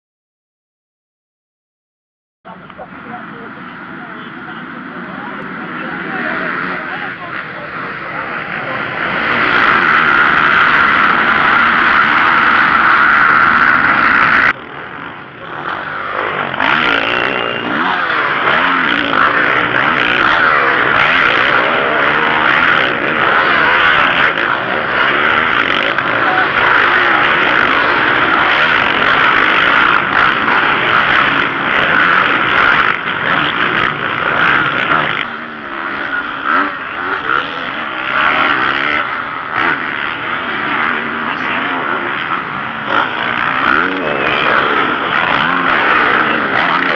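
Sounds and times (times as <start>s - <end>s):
motocross bike engines revving: 2.5s - 46.9s.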